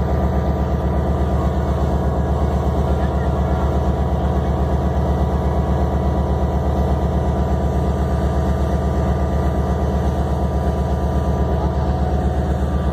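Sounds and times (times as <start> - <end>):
locomotive engine idling: 0.0 - 12.9.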